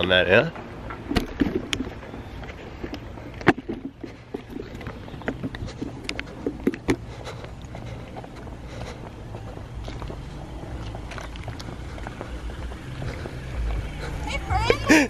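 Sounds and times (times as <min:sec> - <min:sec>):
footsteps on concrete: 0:00.0 - 0:15.0.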